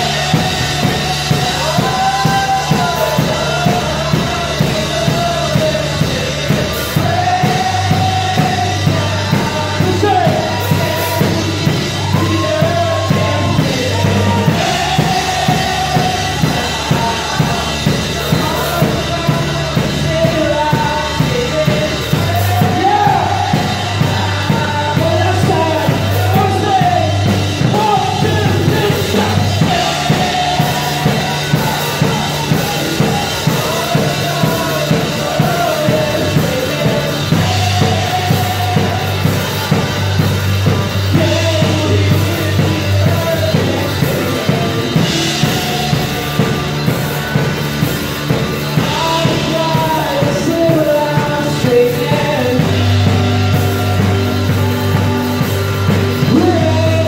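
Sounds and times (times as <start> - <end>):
bass notes: 0.0 - 57.0
drum kit beat: 0.0 - 57.0
person singing: 0.0 - 57.0.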